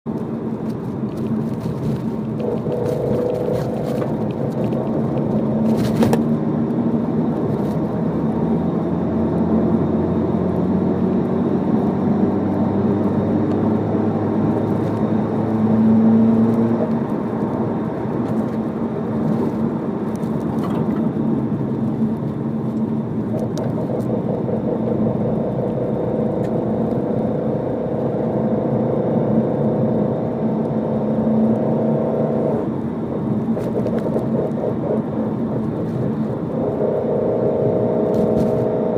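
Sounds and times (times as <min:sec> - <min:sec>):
car engine and exhaust running: 0:00.1 - 0:38.9.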